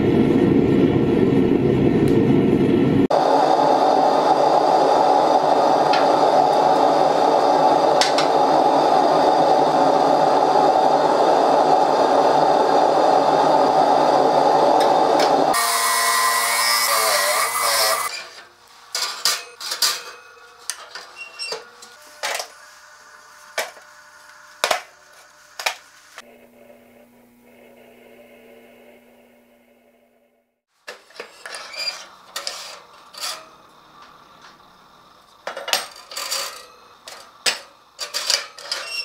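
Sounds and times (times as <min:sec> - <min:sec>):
gas forge burner roaring: 0:00.0 - 0:39.0.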